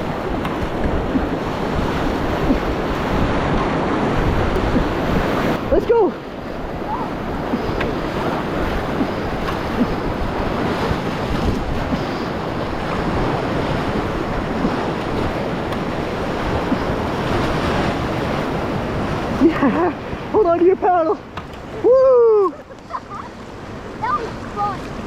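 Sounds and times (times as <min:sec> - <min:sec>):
wind noise on microphone: 0:00.0 - 0:20.4
rushing river rapid: 0:00.0 - 0:25.0.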